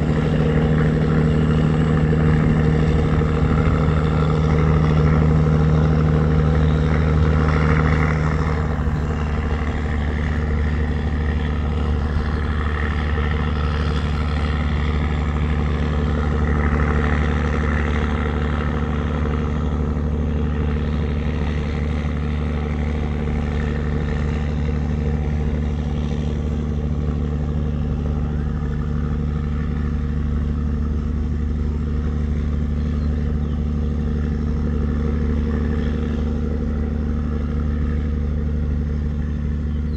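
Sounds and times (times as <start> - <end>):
diesel boat engine droning: 0.0 - 39.9.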